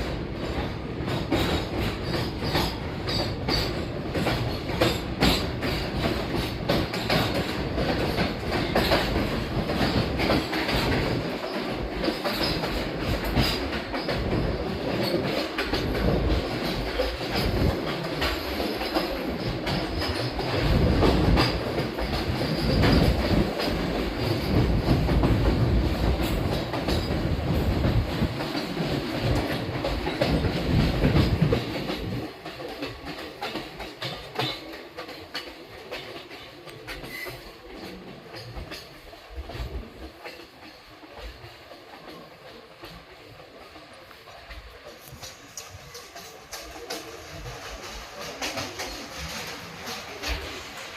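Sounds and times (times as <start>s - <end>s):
passenger train rumbling: 0.0s - 50.9s
wheels clacking over rail joints: 0.0s - 50.9s.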